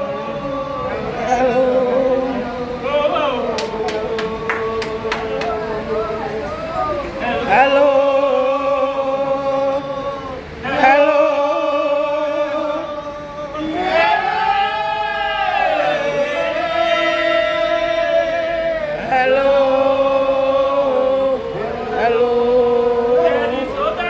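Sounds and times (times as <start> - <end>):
unaccompanied hymn singing: 0.0 - 24.0.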